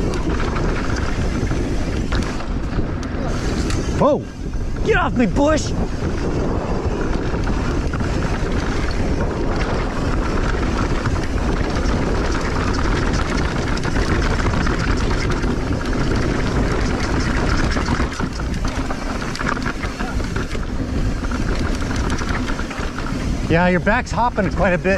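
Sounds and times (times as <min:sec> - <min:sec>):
bike rattling over bumps: 0:00.0 - 0:24.9
bike tyres rolling on dirt: 0:00.0 - 0:24.9
wind buffeting microphone: 0:00.0 - 0:24.9.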